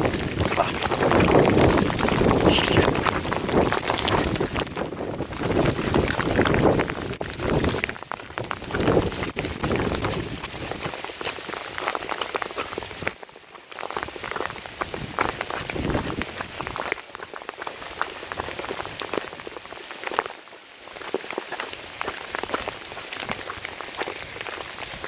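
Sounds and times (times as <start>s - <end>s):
wind rumbling on microphone: 0.0s - 20.4s, 21.0s - 25.0s
hail pelting down: 0.0s - 25.0s.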